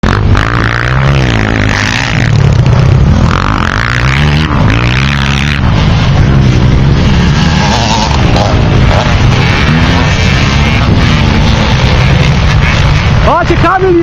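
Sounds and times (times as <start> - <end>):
motocross motorcycle engines revving: 0.0 - 14.0.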